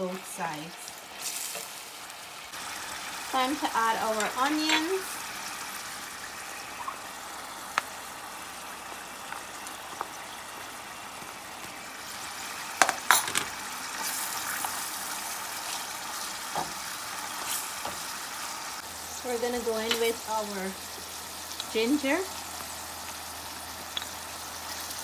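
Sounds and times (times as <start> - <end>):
shrimp sizzling in hot oil: 0.0 - 25.0.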